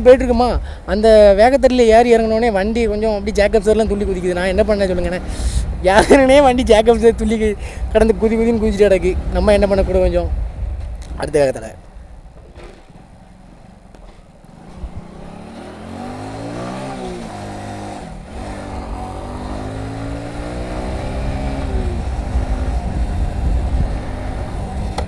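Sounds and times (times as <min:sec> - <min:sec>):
wind rumble: 0:00.0 - 0:25.0
motorcycle engine accelerating: 0:02.2 - 0:11.2, 0:11.9 - 0:25.0.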